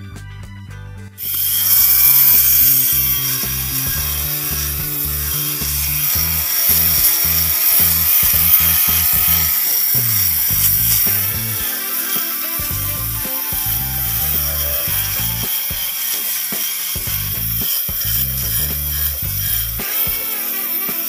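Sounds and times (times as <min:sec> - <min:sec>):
background music: 0:00.0 - 0:21.0
fabric shaver motor running: 0:01.2 - 0:21.0.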